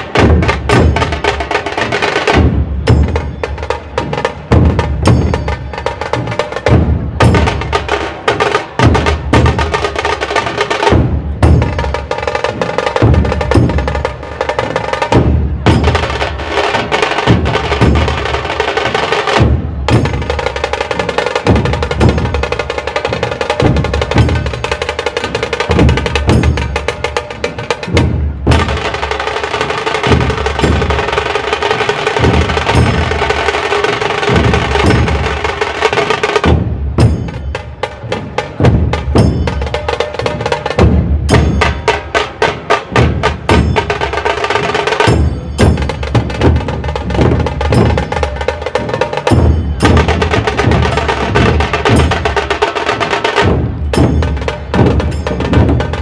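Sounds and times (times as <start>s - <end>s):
deep drum beats: 0.0s - 56.0s
fast rattling drum rolls: 0.0s - 56.0s.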